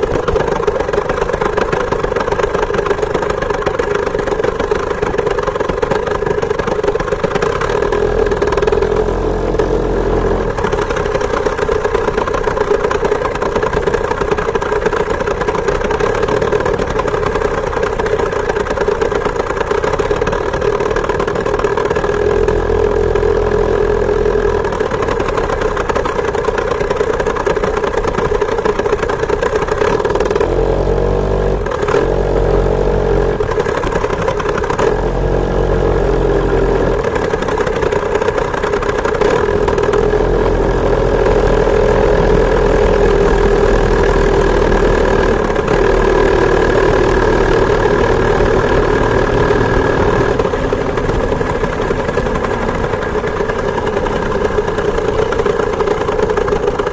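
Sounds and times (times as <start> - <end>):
two-stroke engine running: 0.0 - 56.9.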